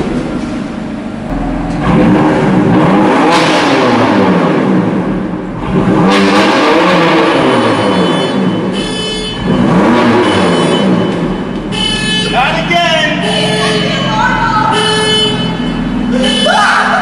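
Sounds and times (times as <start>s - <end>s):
car engine revving: 0.0s - 16.4s.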